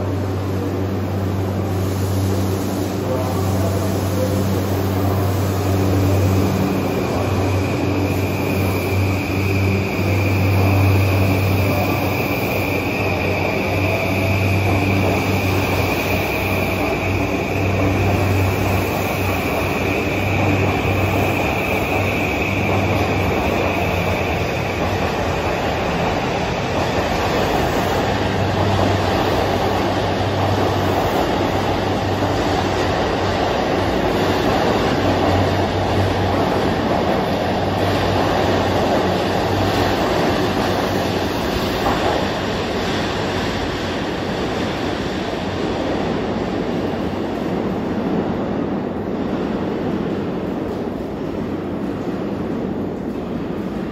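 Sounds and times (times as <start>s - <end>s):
electric train rumbling past: 0.0s - 53.9s.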